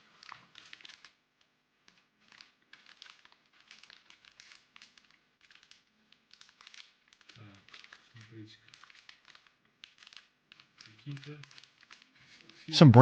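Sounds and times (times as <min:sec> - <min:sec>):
packaging crinkling and rustling: 0:00.0 - 0:01.2, 0:01.9 - 0:12.7.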